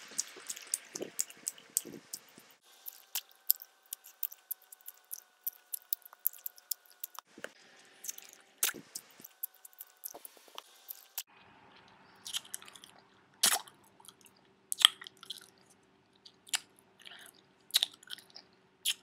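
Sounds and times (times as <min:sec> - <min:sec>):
person chewing gum noisily: 0:00.0 - 0:19.0.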